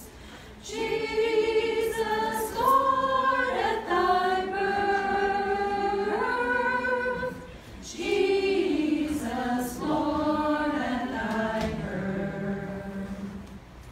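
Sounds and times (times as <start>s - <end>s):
women singing a cappella: 0.0s - 13.7s.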